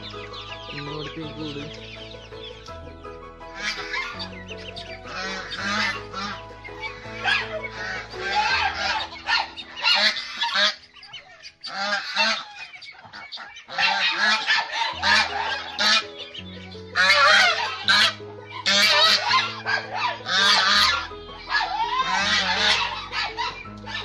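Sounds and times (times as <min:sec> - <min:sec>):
geese honking: 0:00.0 - 0:24.0
low background music: 0:00.0 - 0:24.0.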